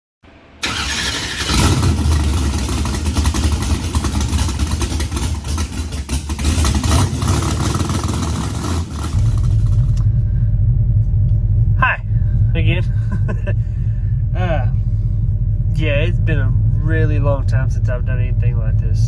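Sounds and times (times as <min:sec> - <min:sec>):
loud vehicle engine running: 0:00.3 - 0:19.0.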